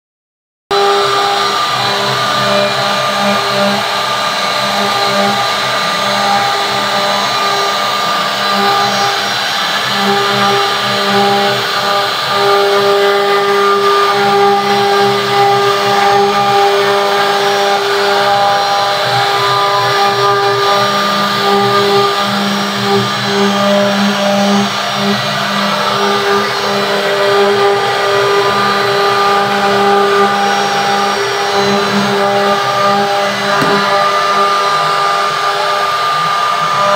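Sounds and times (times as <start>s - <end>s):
router bit cutting wood: 0.7s - 36.9s
router spindle motor whine: 0.7s - 36.9s.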